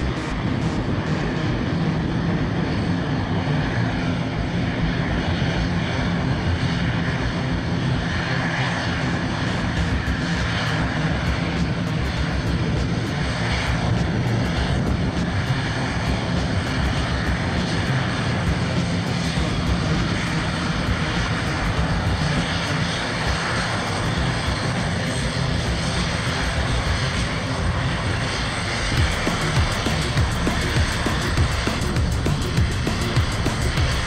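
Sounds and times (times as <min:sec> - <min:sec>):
turboprop engines and propellers: 0:00.0 - 0:34.0.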